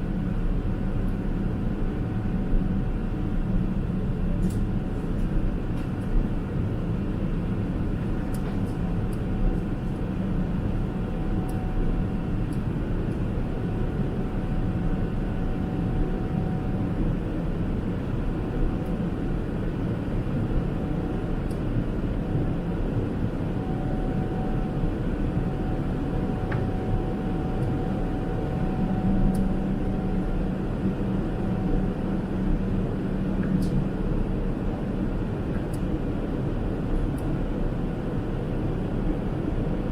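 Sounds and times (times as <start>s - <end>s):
airplane cabin noise: 0.0s - 39.9s
faint steady hum: 6.3s - 39.9s.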